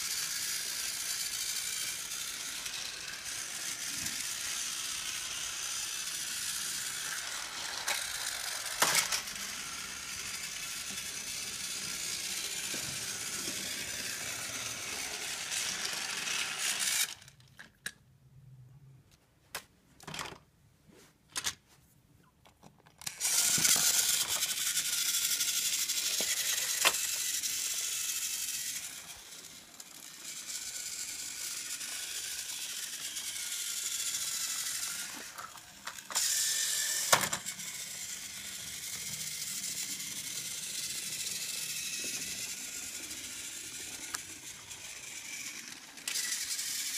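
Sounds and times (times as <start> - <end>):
toy train motor whirring: 0.0 - 18.0, 23.0 - 46.9.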